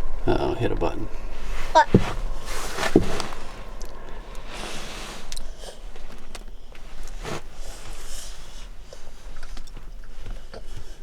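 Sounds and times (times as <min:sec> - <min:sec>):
diesel heater humming: 0:00.0 - 0:11.0
rustling handling noise: 0:00.5 - 0:11.0.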